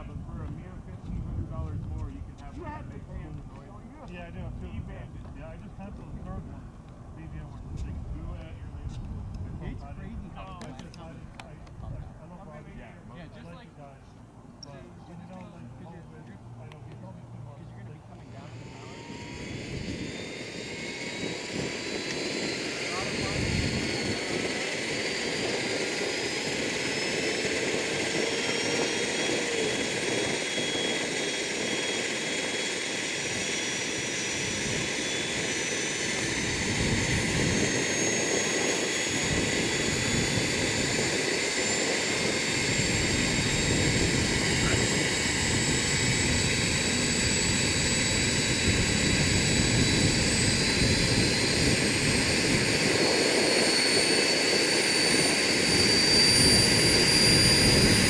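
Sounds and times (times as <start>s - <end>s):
model helicopter whine: 0.0s - 58.0s.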